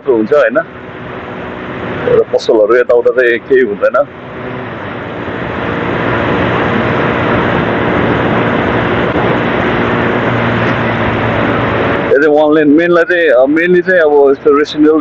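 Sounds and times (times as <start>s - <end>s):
motorcycle engine running: 0.0s - 14.4s
wind and road noise: 0.0s - 15.0s.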